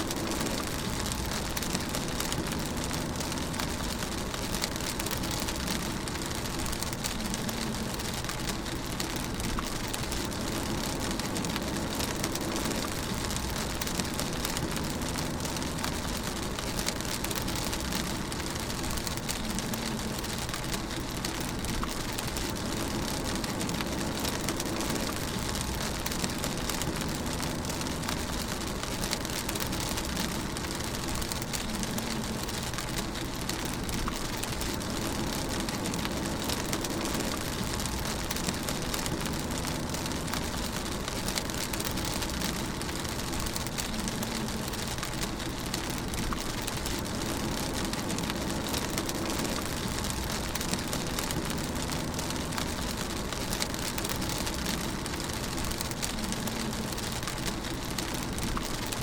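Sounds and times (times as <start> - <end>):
rain on a car: 0.0 - 59.0.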